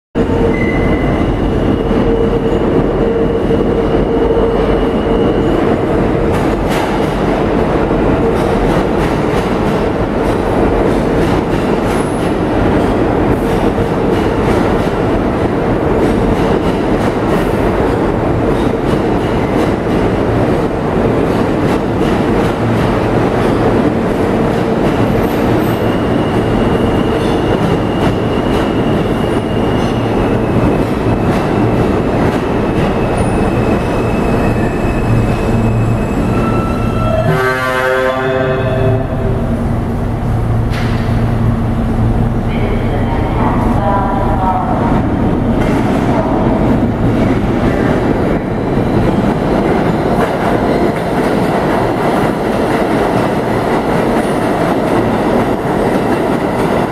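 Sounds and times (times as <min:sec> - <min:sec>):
subway train rumble: 0:00.2 - 0:56.9.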